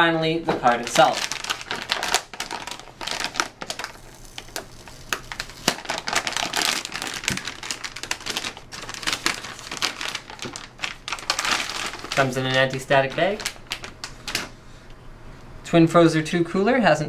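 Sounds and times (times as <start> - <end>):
anti-static bag crinkling: 0.5 - 14.6.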